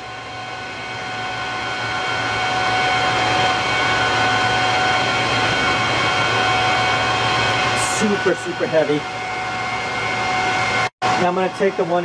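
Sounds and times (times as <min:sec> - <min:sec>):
cooling fans whirring: 0:00.0 - 0:12.0
thin steady whine: 0:00.0 - 0:12.0.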